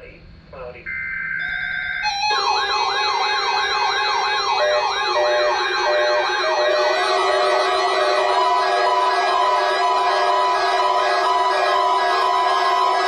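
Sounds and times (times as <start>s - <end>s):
falling alarm wail: 0.9s - 13.0s
high wavering alarm tone: 0.9s - 13.0s
steady held alarm tones: 0.9s - 13.0s.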